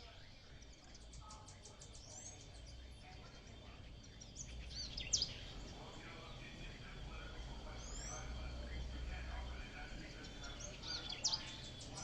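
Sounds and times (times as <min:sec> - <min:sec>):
birds singing and chirping: 0:00.0 - 0:12.0
low steady rumble: 0:00.0 - 0:12.0.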